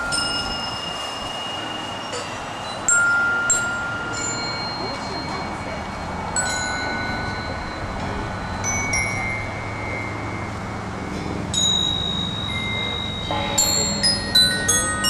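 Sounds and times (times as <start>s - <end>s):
high bell-like chimes: 0.0s - 15.0s.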